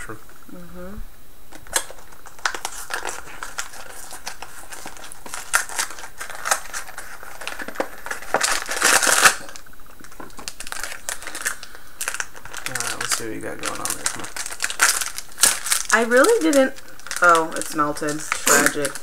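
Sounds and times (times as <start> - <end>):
snack wrapper crinkling: 1.5 - 19.0.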